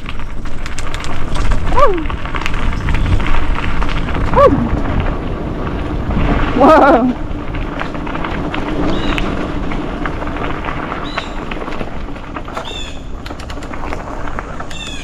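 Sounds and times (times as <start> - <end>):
bike frame rattling: 0.0 - 15.0
tyres on dirt: 0.0 - 15.0
wind over microphone: 0.0 - 15.0.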